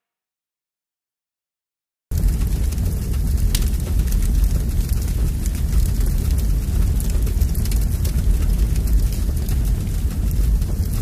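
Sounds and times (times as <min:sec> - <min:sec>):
large fire crackling: 0:02.1 - 0:11.0.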